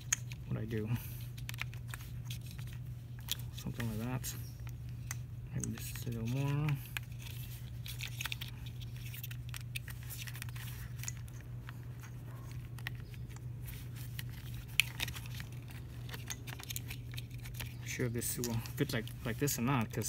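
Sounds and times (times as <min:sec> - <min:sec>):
hands handling wires and plastic: 0:00.0 - 0:20.0
steady low hum: 0:00.0 - 0:20.0.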